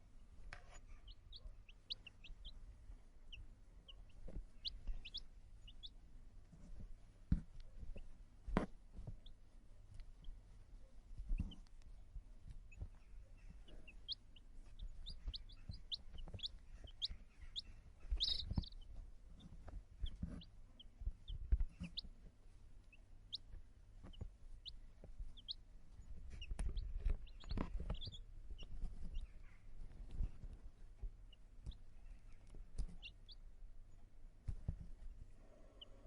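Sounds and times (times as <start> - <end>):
chicks peeping: 0.4 - 36.0.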